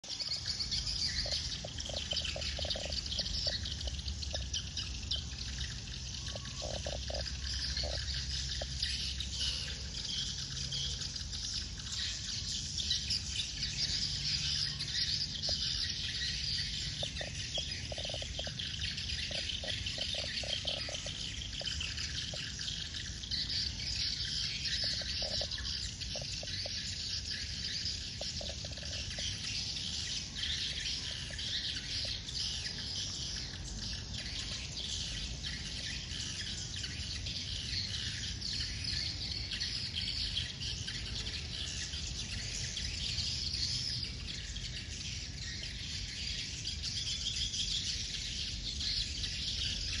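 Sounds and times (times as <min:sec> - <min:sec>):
flock of birds chirping: 0:00.0 - 0:50.0
lower-pitched bird calls: 0:00.1 - 0:12.2, 0:12.9 - 0:42.6.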